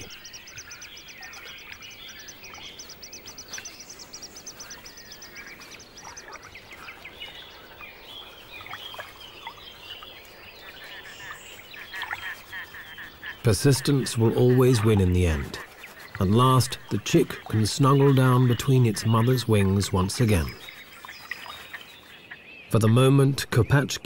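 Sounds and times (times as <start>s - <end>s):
bird ticking trill: 0.0s - 23.0s.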